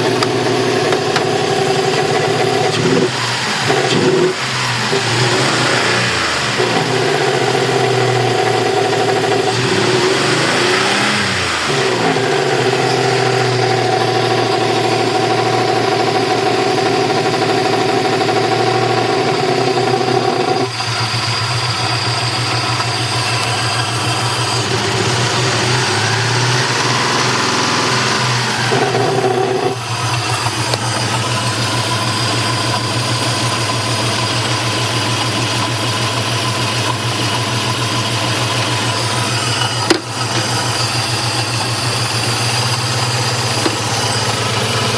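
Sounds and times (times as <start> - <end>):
throaty car engine revving: 0.0 - 44.9.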